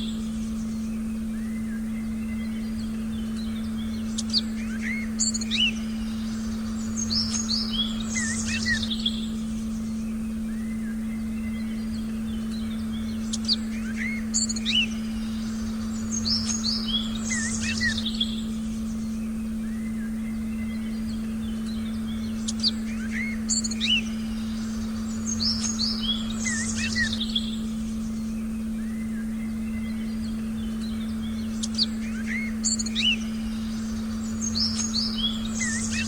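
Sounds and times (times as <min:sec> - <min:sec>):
birds chirping and whistling: 0:00.0 - 0:36.0
steady low electronic tone: 0:00.0 - 0:36.0.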